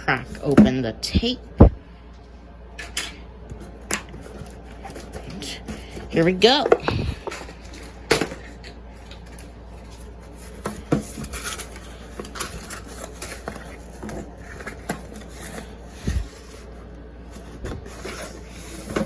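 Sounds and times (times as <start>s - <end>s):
cardboard parcel being handled: 3.6s - 19.0s.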